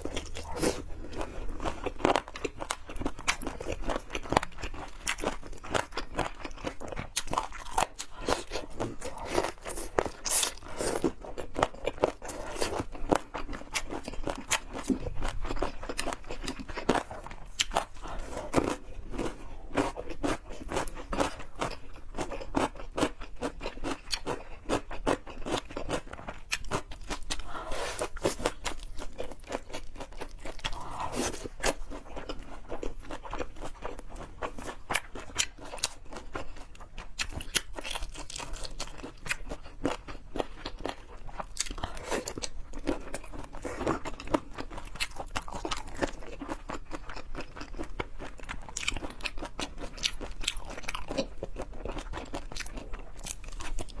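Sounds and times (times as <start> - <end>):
chewing with small crunches: 0.0 - 54.0.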